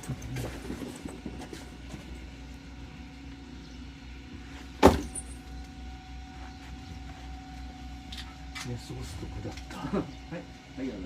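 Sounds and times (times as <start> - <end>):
railcar low hum: 0.0 - 11.0.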